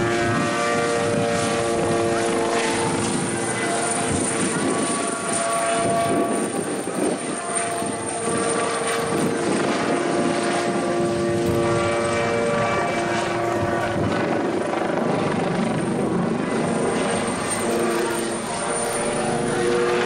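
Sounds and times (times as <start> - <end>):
engine whine: 0.0 - 20.0
helicopter flying overhead: 0.0 - 20.0.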